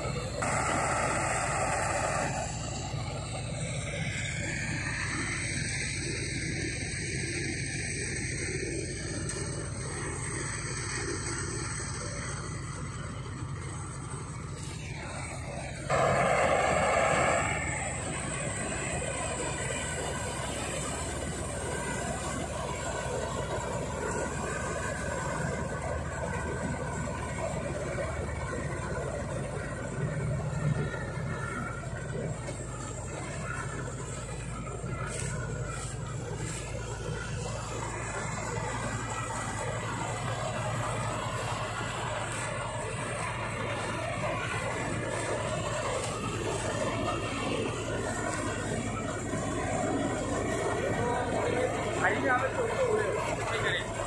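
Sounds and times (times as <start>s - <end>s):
threshing machinery running: 0.0s - 54.0s
tractor diesel engine: 0.0s - 54.0s.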